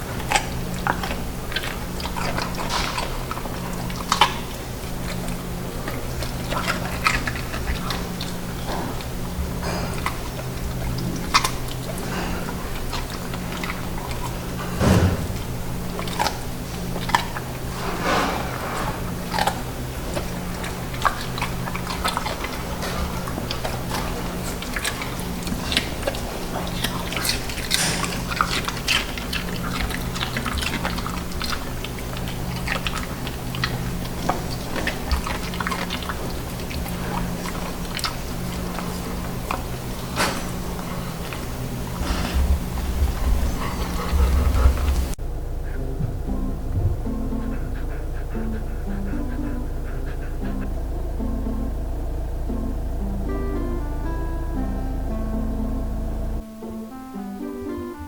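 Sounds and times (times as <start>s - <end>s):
dog chewing: 0.0s - 51.4s
low electrical hum: 0.0s - 58.0s.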